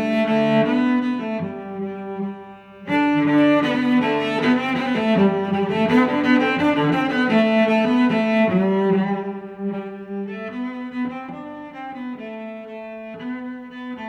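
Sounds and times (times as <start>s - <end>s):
bowed string music: 0.0s - 14.0s.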